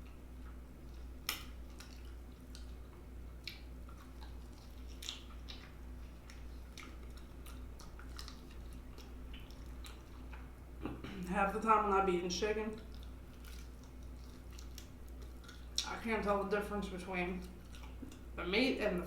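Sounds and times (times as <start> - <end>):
wet chewing and smacking: 0.0 - 11.0, 12.6 - 16.0, 17.3 - 18.4
low steady hum: 0.0 - 19.0.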